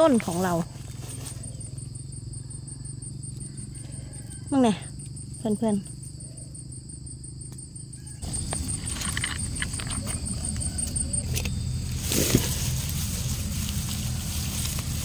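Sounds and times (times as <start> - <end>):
high insect trill: 0.0 - 15.0
insects chirping in pulses: 0.0 - 15.0.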